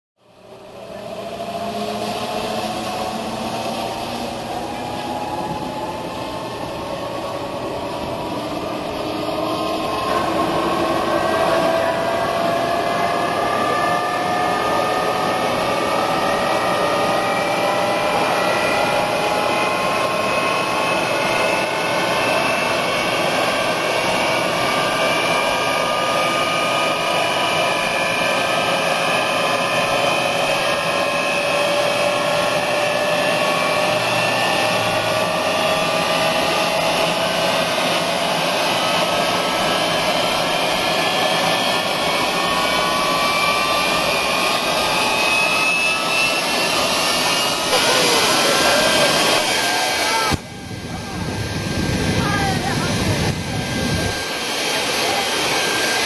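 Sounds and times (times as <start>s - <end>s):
jet engine running hard: 0.2s - 56.0s
turbine whine rising in pitch: 0.2s - 56.0s.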